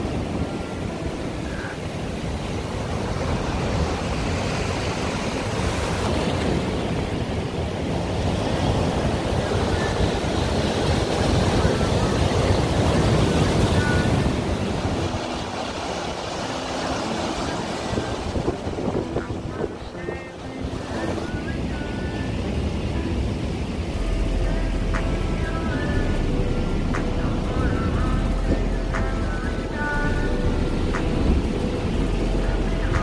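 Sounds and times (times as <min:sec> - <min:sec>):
surf washing over pebbly shore: 0:00.0 - 0:33.0
wind buffeting microphone: 0:00.0 - 0:33.0.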